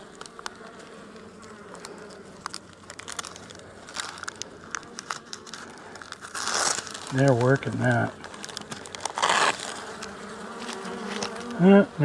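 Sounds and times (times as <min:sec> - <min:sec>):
light clicks and crinkles: 0:00.0 - 0:11.6
honeybees buzzing: 0:00.0 - 0:12.0.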